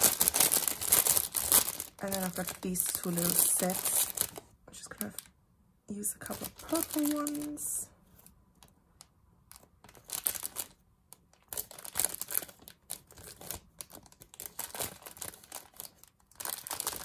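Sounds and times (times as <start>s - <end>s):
plastic bag crinkling: 0.0s - 5.3s, 6.0s - 8.7s, 9.5s - 17.0s.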